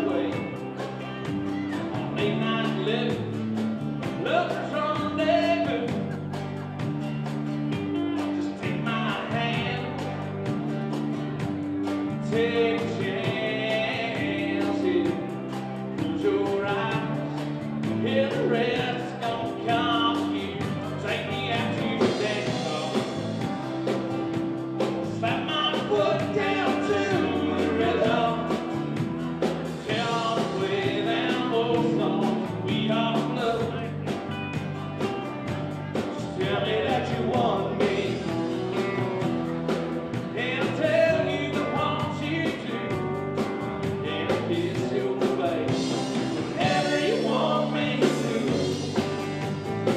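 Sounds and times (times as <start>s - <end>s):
man singing: 0.0s - 6.3s, 7.8s - 10.3s, 12.0s - 23.6s, 24.8s - 29.1s, 29.7s - 34.5s, 36.0s - 39.0s, 40.3s - 49.4s
live country band playing: 0.0s - 49.9s.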